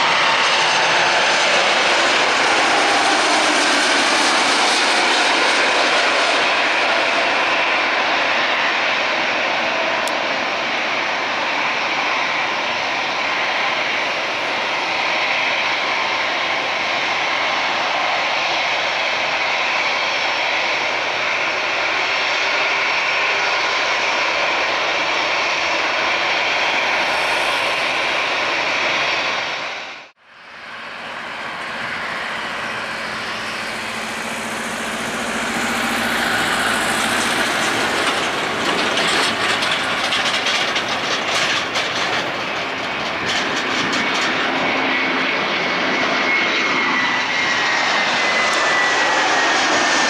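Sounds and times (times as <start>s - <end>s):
airliner landing: 0.0s - 50.0s.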